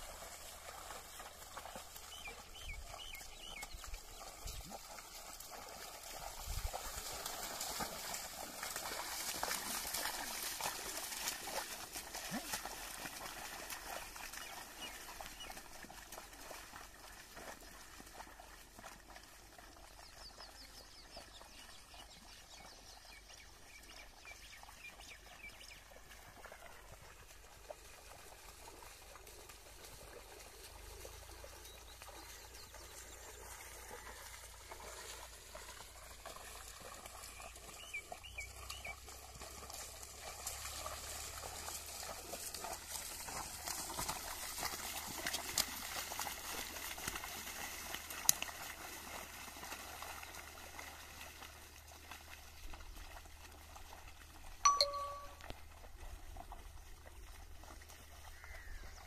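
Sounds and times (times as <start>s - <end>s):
mud and water sloshing: 0.0s - 59.0s.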